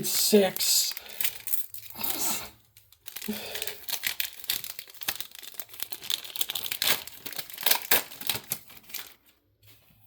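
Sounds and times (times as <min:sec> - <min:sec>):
plastic wrapper crinkling and tearing: 0:00.0 - 0:09.5.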